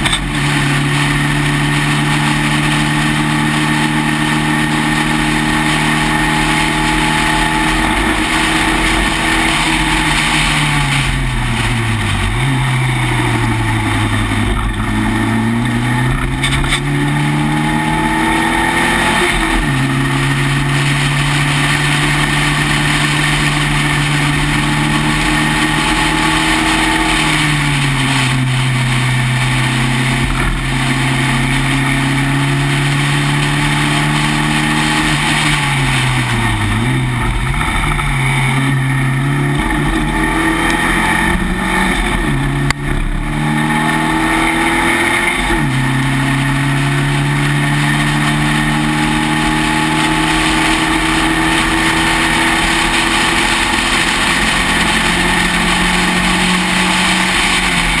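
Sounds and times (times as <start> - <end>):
racing car engine: 0.0 - 58.0.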